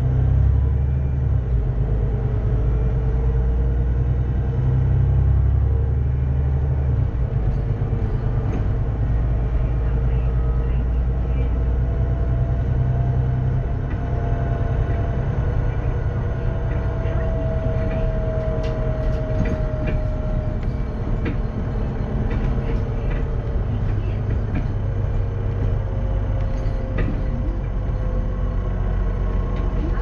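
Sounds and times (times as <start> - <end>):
bus clicks and rattles: 0.0 - 30.0
bus diesel engine running: 0.0 - 30.0.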